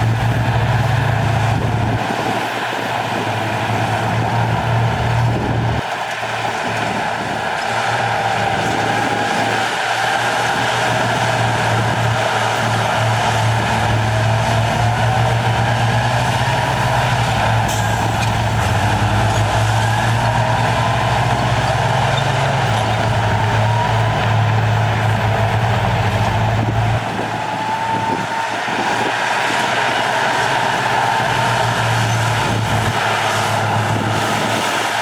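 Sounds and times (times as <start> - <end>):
diesel machinery engine running: 0.0 - 35.0.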